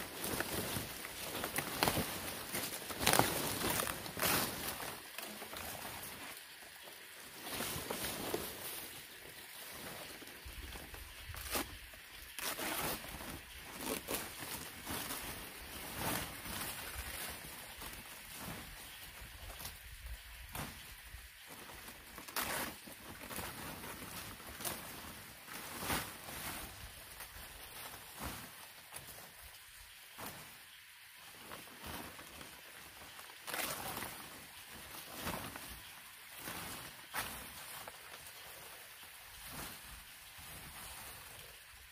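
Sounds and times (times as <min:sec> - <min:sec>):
palm leaves rustling: 0:00.0 - 0:41.9.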